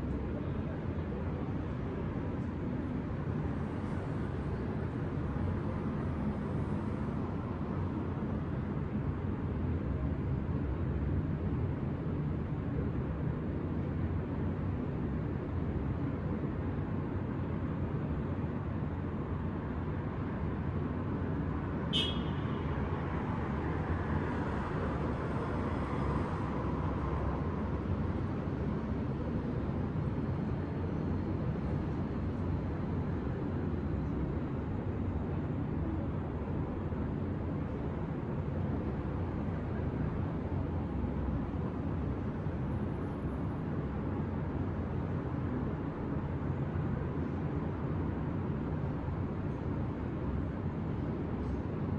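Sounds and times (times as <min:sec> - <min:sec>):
low rumble of road traffic: 0:00.0 - 0:51.9.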